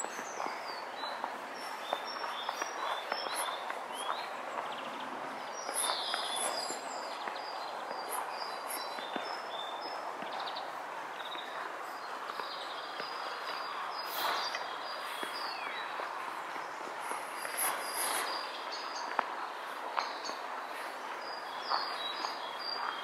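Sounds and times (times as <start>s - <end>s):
outdoor background rush: 0.0s - 23.0s
small birds chirping: 0.0s - 23.0s.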